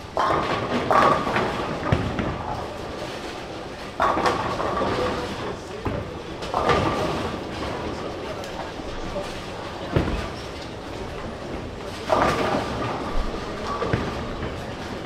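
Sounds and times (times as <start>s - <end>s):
bowling balls rolling: 0.0s - 15.0s
bowling pins crashing: 0.1s - 15.0s.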